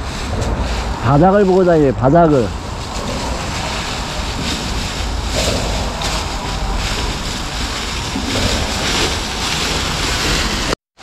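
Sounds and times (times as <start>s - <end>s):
footsteps in dry leaves: 0.0s - 10.8s
wind buffeting microphone: 0.0s - 10.8s.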